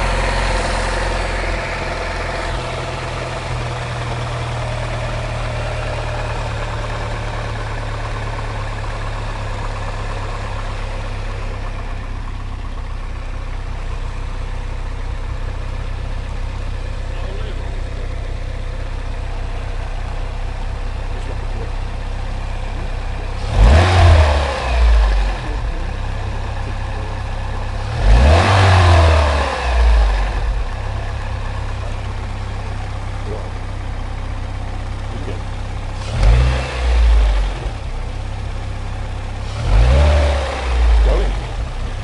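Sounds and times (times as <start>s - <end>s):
engine ticking noise: 0.0s - 42.0s
petrol engine idling and revving: 0.0s - 42.0s.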